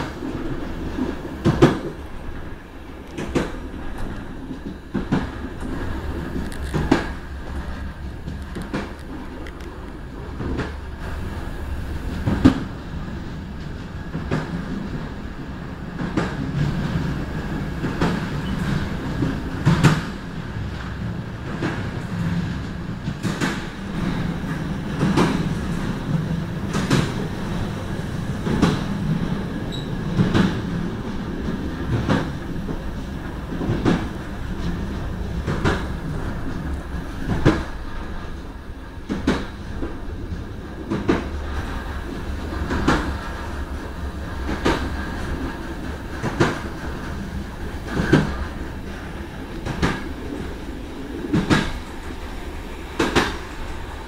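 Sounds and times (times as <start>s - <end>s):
train wheels rumbling on rails: 0.0s - 54.0s
wheels clacking over rail joints: 0.0s - 54.0s.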